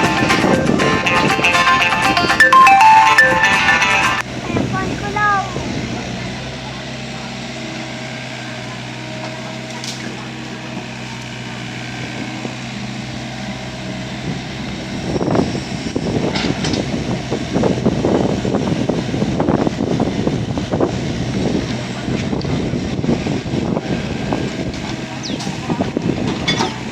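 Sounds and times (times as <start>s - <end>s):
excavator engine running: 0.0s - 26.9s.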